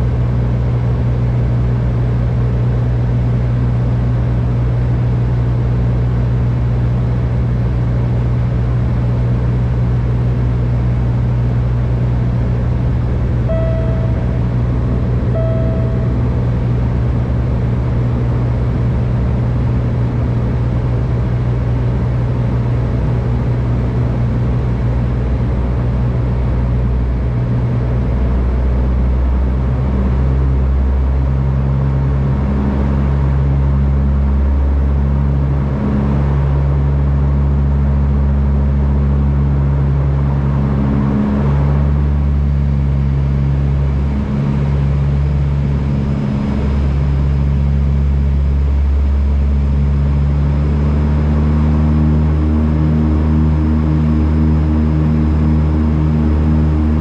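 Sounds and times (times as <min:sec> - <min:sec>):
turboprop engine drone: 0:00.0 - 0:57.0.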